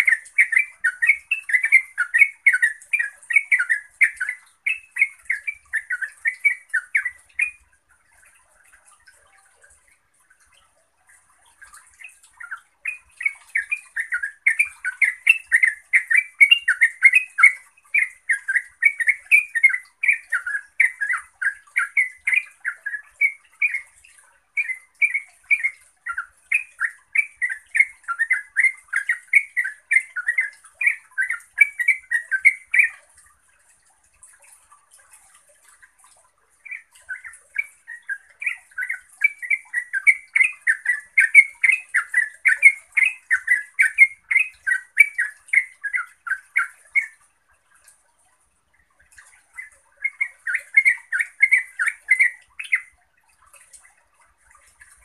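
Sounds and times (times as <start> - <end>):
bulbul singing chattering song: 0.0 - 48.0, 48.8 - 55.0.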